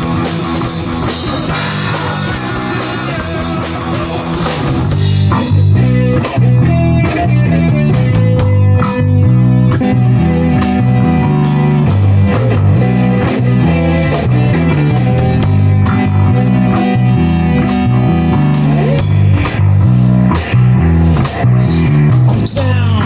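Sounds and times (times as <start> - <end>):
bass guitar: 0.0 - 23.0
drum kit steady beat: 0.0 - 23.0
guitars: 0.0 - 23.0.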